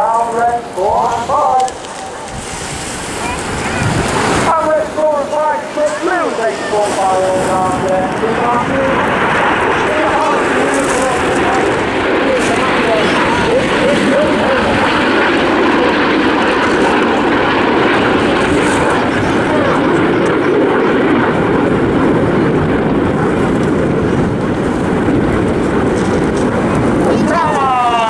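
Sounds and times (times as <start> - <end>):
jet aircraft roaring past: 0.0 - 28.0.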